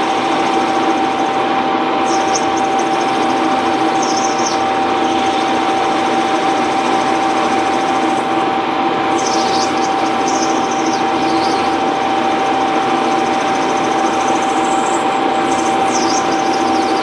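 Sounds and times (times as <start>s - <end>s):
lathe running with a whine: 0.0s - 17.0s.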